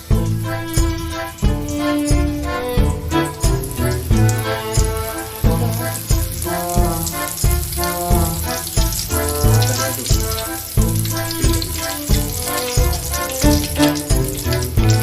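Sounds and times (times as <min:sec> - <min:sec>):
food frying in oil: 0:00.0 - 0:15.0
music with bass beat: 0:00.0 - 0:15.0.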